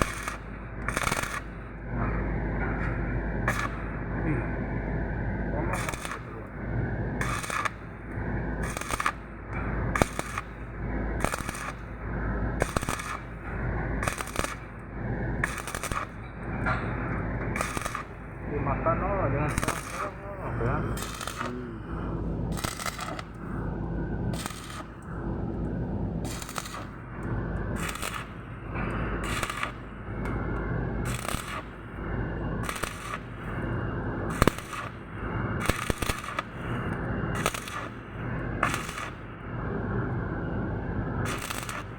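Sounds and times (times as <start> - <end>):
welding crackling hiss: 0.0 - 1.7, 2.7 - 4.3, 5.5 - 16.7, 17.4 - 23.7, 24.3 - 33.7, 34.3 - 39.4, 41.2 - 41.9
low machine hum: 0.0 - 41.9.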